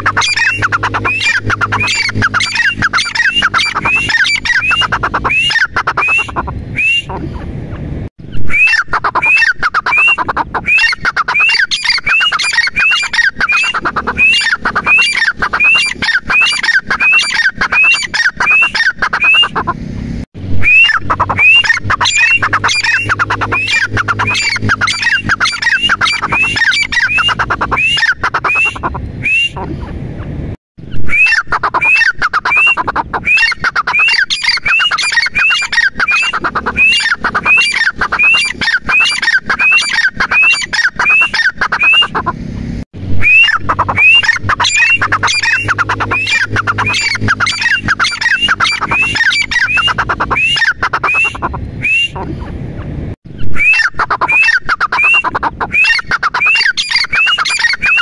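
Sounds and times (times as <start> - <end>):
bird calling shrill rising notes: 0.0 - 7.2, 8.2 - 19.7, 20.4 - 29.6, 30.9 - 42.3, 43.0 - 52.2, 53.3 - 58.0.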